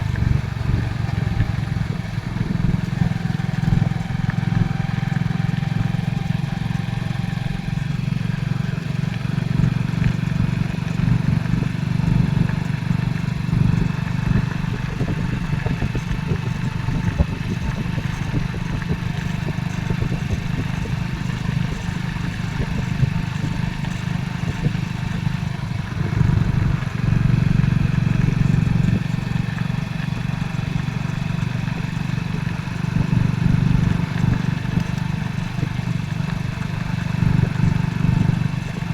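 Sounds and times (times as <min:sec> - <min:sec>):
motorcycle engine running: 0:00.0 - 0:38.9
road and wind noise: 0:00.0 - 0:38.9.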